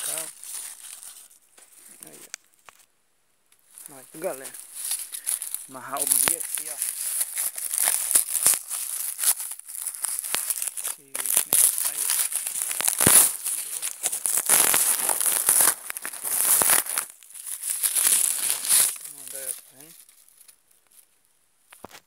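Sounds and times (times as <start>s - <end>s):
dry leaves rustling and crackling: 0.0s - 2.3s, 3.7s - 21.0s.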